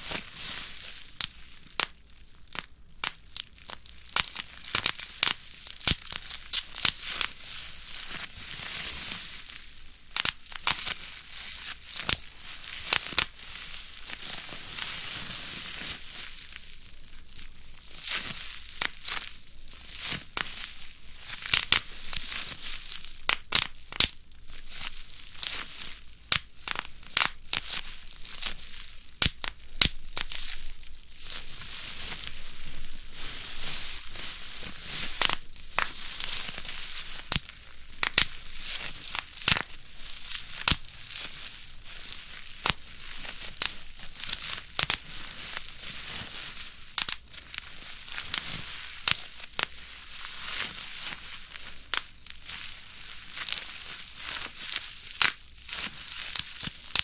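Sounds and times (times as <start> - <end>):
bubble wrap crinkling: 0.0 - 57.0
bubble wrap popping: 0.0 - 57.0.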